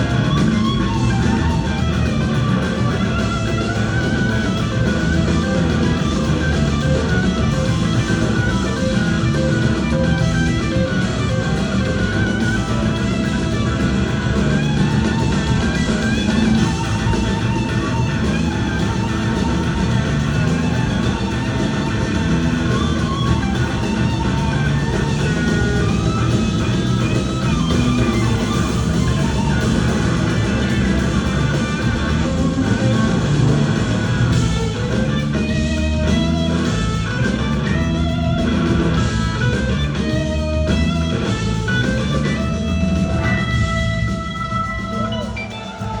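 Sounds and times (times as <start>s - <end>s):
band playing accented hits: 0.0s - 46.0s
bass guitar: 0.0s - 46.0s
drums: 0.0s - 46.0s
electric guitar: 0.0s - 46.0s.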